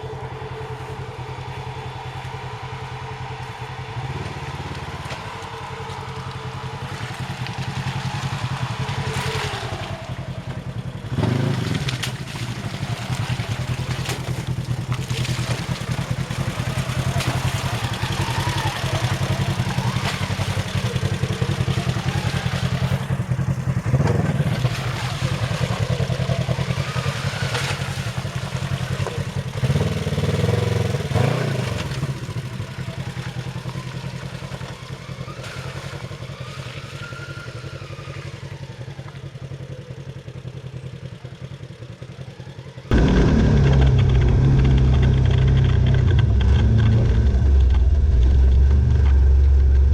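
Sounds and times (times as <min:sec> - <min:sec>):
off-road vehicle engine revving: 0:00.0 - 0:41.6, 0:42.7 - 0:49.9.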